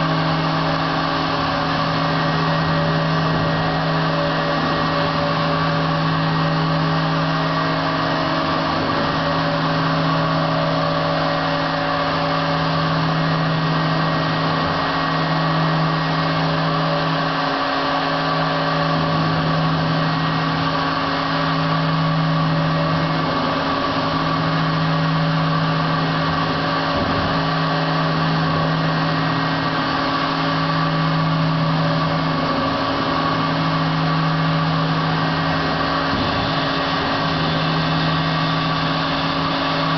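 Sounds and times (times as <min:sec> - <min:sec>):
router motor hum and whine: 0:00.0 - 0:39.9.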